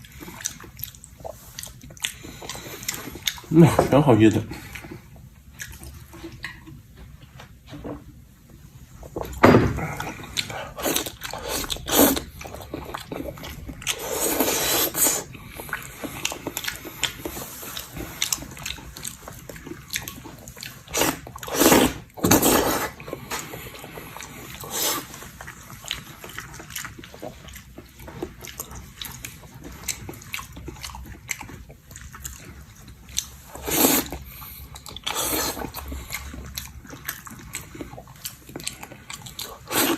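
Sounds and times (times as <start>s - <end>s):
person chewing wetly: 0.0s - 7.4s, 8.9s - 39.9s.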